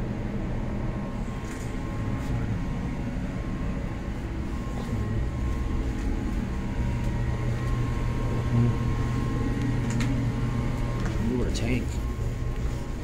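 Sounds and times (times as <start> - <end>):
faint steady hum: 0.0 - 13.0
heating equipment rumbling: 0.0 - 13.0.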